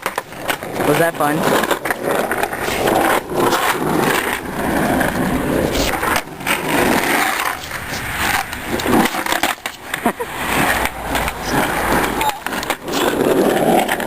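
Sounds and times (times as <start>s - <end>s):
skateboard clacks: 0.0s - 14.0s
skateboard wheels rolling on wet pavement: 0.0s - 14.0s.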